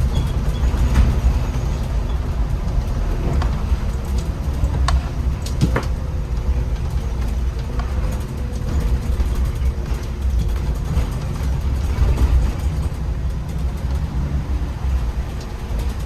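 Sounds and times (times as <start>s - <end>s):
bus engine rumble and road noise: 0.0s - 16.0s.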